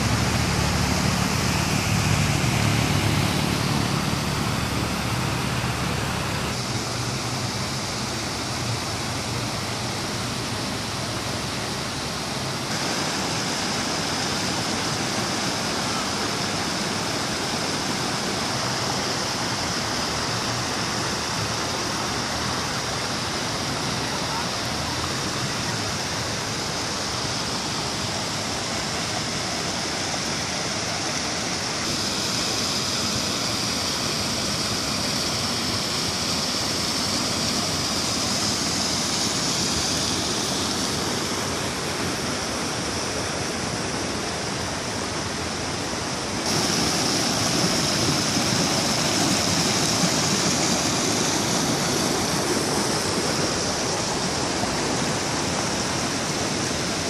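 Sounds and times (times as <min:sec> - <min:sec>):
creek water rushing over logs: 0:00.0 - 0:57.0.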